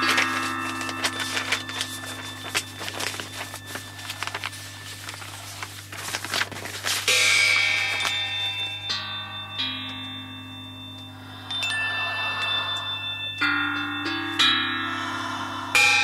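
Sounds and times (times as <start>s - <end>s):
bell-like ringing tone: 0.0s - 5.7s, 7.2s - 16.0s
steady low hum: 0.0s - 16.0s.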